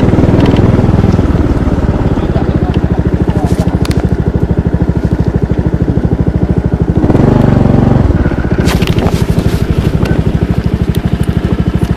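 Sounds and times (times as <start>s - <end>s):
motorcycle engine idling: 0.0s - 11.9s
motorcycle engine revving: 0.0s - 11.9s.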